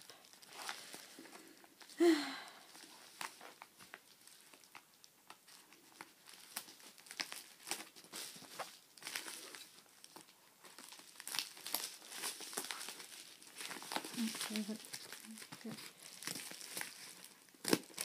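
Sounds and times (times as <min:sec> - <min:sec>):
package crinkling and tearing: 0:02.6 - 0:18.0.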